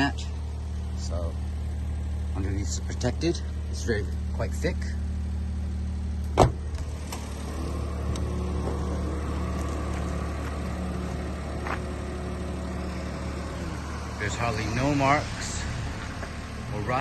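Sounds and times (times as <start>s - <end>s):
small truck engine idling: 0.0s - 17.0s.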